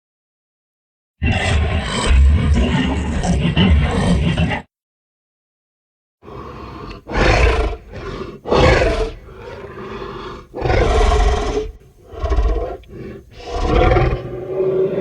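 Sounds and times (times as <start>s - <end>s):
monster roars: 1.2s - 4.7s, 6.3s - 15.0s.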